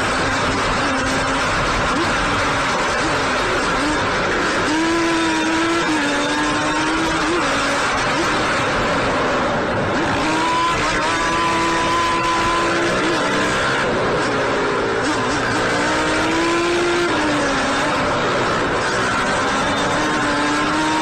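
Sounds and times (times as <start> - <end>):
road and wind noise: 0.0 - 21.0
vehicle engine at high revs: 0.0 - 21.0.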